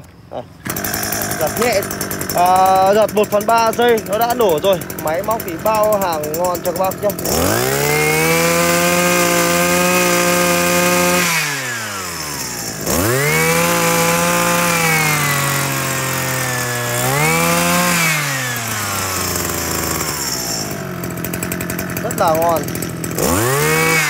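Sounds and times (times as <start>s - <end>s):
brush cutter engine revving: 0.0s - 24.0s.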